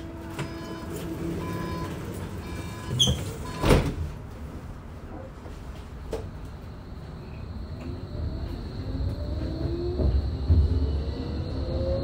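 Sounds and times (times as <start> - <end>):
tram electrical humming and whining: 0.0 - 12.0.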